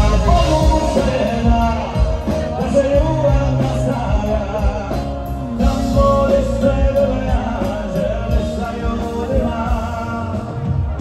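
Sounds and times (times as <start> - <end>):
person singing: 0.0 - 11.0
rock band music: 0.0 - 11.0.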